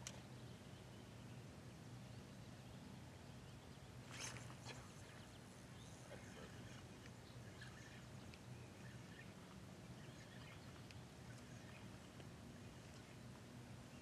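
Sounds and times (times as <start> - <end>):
low steady hum: 0.0 - 14.0
faint bird chirps: 0.3 - 14.0.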